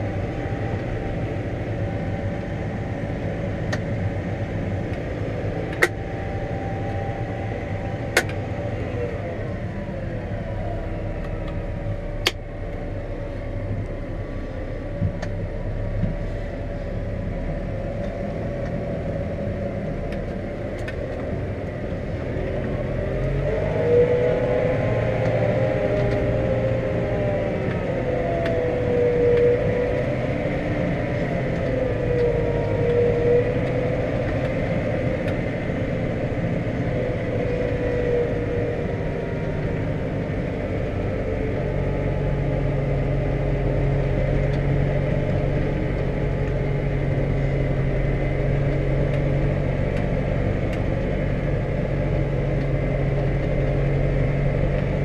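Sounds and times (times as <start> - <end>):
tractor diesel engine running: 0.0 - 55.0
wavering whine: 0.0 - 55.0.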